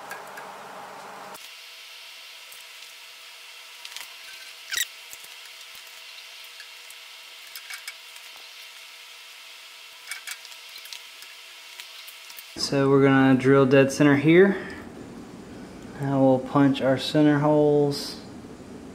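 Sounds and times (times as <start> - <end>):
faint steady hum: 0.0 - 18.9.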